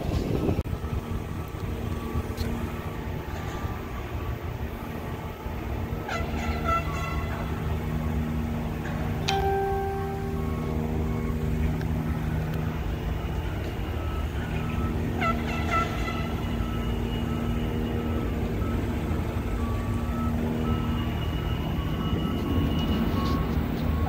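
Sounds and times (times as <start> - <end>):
construction machinery engine drone: 0.0 - 24.0.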